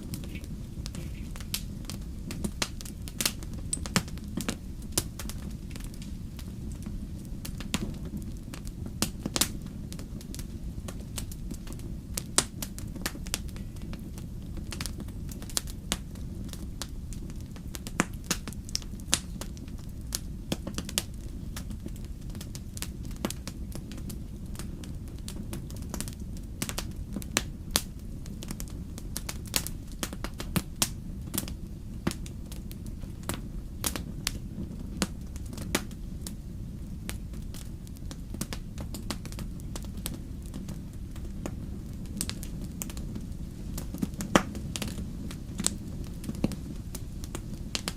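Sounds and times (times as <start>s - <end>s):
low rumble of fire: 0.0s - 47.9s
wood fire crackling: 0.0s - 47.9s.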